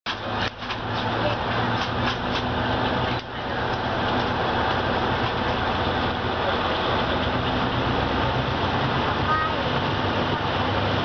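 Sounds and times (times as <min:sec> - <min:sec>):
diesel train running rumble: 0:00.1 - 0:11.0.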